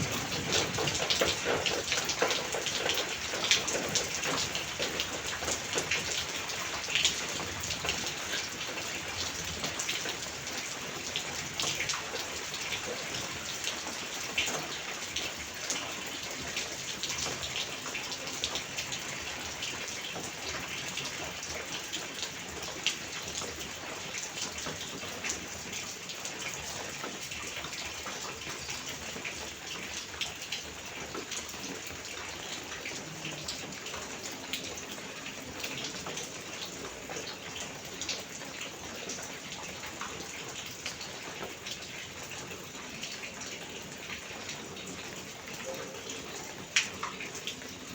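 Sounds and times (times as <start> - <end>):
raindrops clicking on surfaces: 0.0 - 47.9
steady rain: 0.0 - 47.9.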